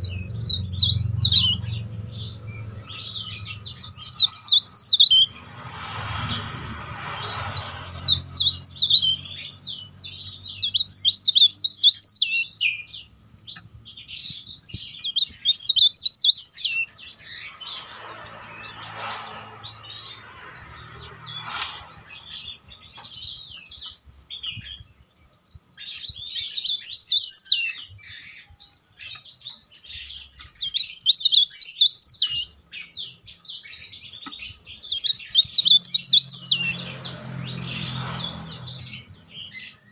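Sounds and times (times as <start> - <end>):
songbird singing shrill trills: 0.0 - 39.9.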